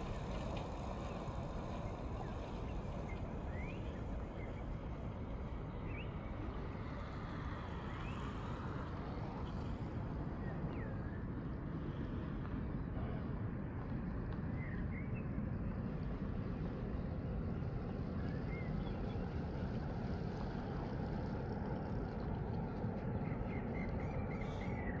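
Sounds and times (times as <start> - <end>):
wind rumble: 0.0 - 25.0.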